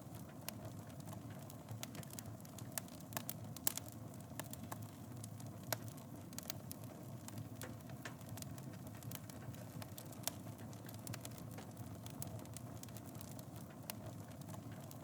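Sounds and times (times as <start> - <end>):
low rumble of burning: 0.0 - 15.0
wood fire pops and snaps: 0.0 - 15.0.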